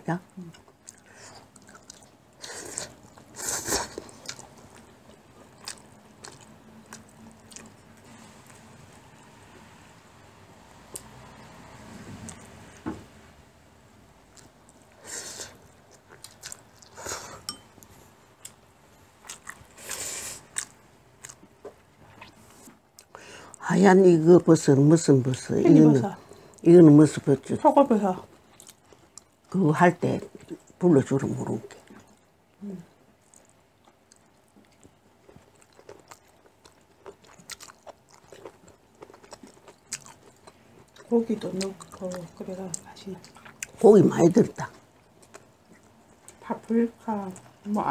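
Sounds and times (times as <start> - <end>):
people chewing food: 0.2 - 9.8, 10.8 - 12.9, 14.1 - 47.9.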